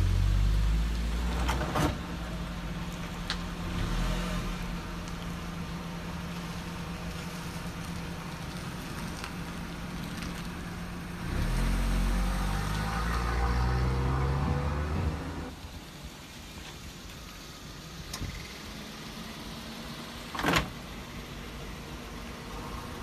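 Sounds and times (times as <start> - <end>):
car engine running slowly: 0.0 - 23.0.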